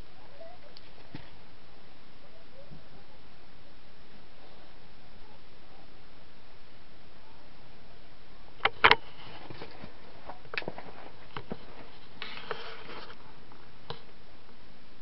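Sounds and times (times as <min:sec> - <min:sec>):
ceiling fan hissing: 0:00.0 - 0:15.0.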